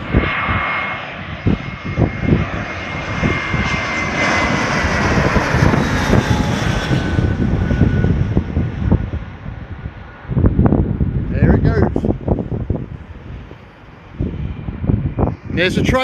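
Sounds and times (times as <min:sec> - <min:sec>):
airplane passing overhead: 0:00.0 - 0:16.0.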